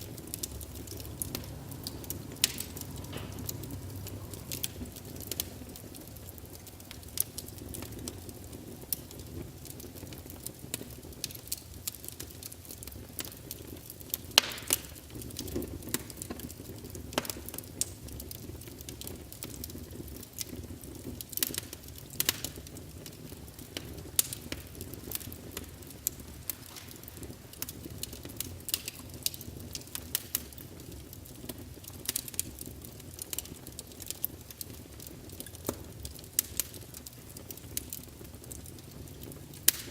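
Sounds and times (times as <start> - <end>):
flames rushing: 0.0 - 39.9
logs crackling and popping: 0.0 - 39.9.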